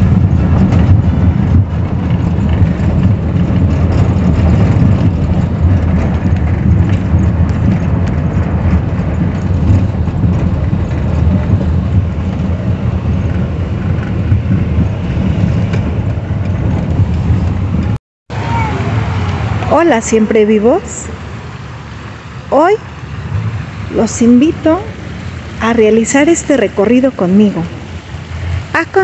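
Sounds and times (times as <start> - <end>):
car tyres rumbling on cobblestones: 0.0 - 29.0.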